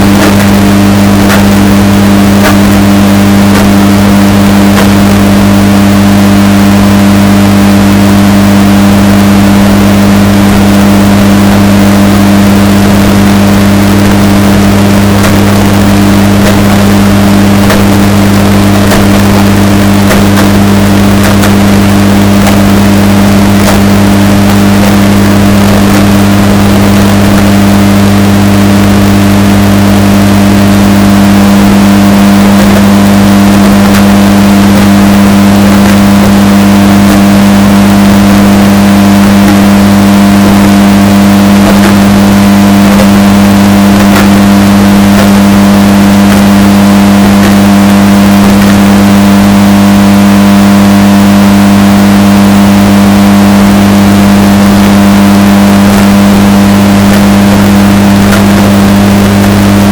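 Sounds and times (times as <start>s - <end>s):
distorted washing machine hum: 0.0s - 59.9s.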